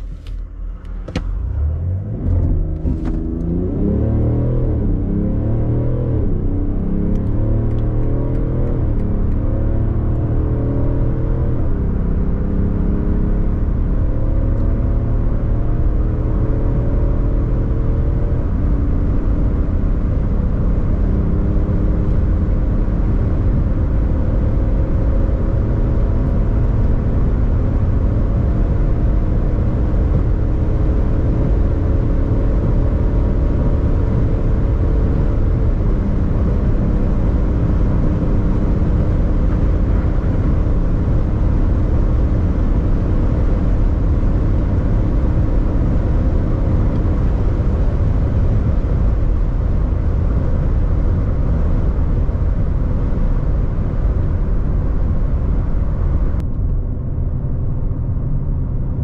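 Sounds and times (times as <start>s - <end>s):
diesel engine accelerating: 0.0s - 59.0s.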